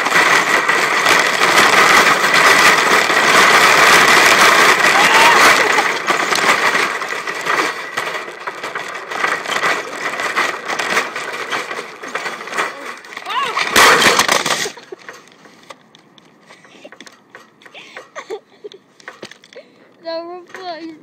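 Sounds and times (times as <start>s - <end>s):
shopping cart rattling on pavement: 0.0s - 21.0s.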